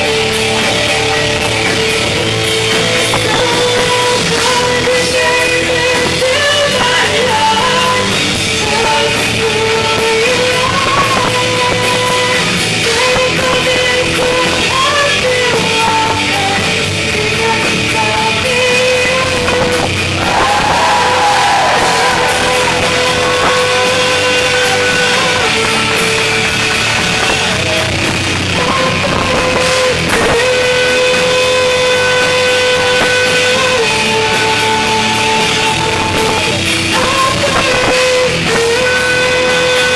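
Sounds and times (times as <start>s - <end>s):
rock song with singer and band: 0.0s - 39.9s.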